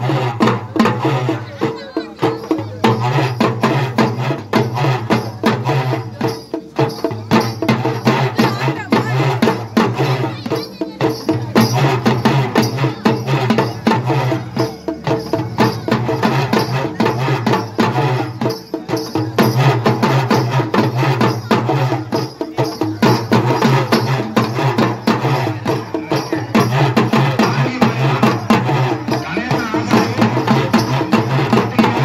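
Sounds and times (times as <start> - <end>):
drums beaten with sticks: 0.0 - 32.0.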